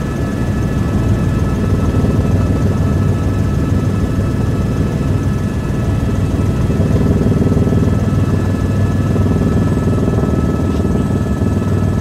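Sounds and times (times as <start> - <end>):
helicopter rotor beat: 0.0 - 12.0.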